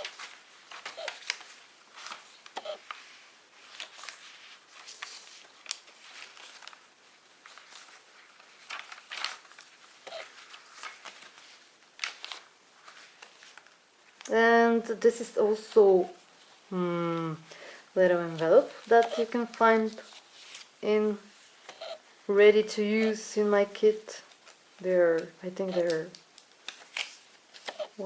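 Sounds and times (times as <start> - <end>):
paper and card rustling: 0.0 - 14.3, 18.1 - 22.0, 22.8 - 28.0.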